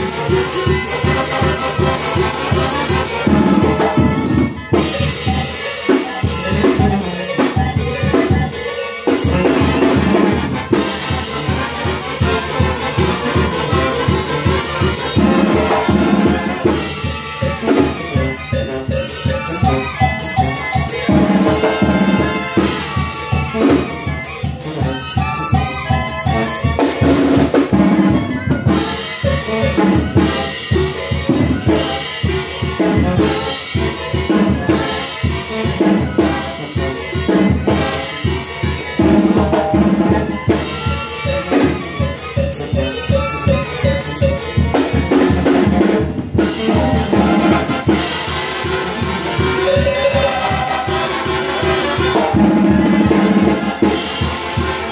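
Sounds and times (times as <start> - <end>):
brass band dance tune: 0.0 - 54.9.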